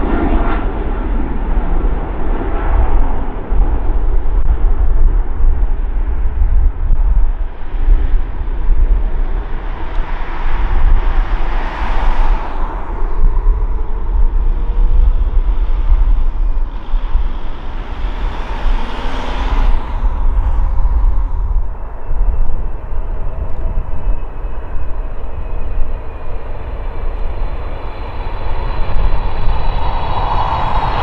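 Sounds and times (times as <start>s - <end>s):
jet engines rumbling: 0.0s - 31.0s.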